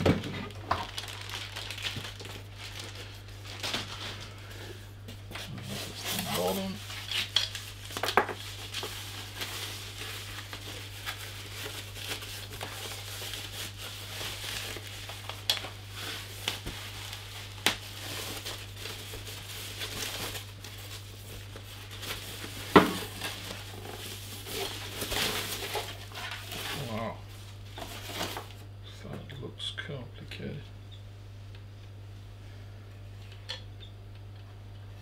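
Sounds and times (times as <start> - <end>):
plastic wrap crinkling: 0.0 - 28.7
steady low hum: 0.0 - 35.0.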